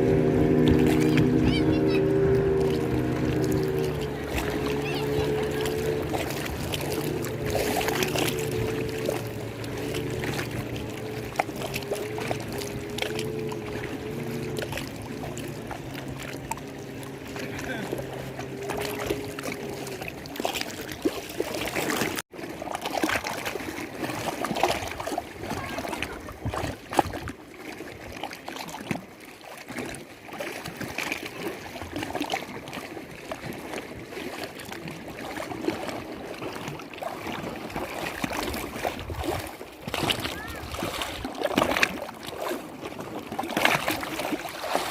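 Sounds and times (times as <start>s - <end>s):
water lapping at the shore: 0.0s - 44.9s.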